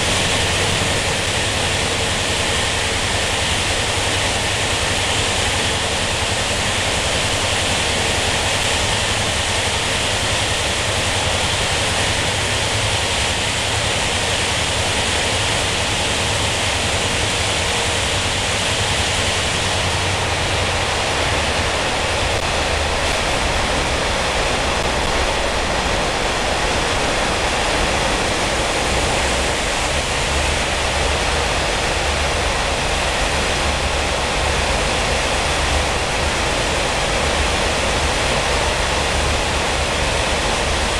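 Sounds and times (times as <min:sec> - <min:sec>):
rushing air: 0:00.0 - 0:40.9
train wheels on rails: 0:00.0 - 0:40.9.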